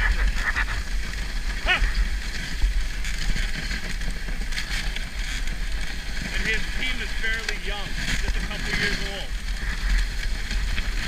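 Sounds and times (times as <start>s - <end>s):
sled rumbling over snow: 0.0s - 11.0s.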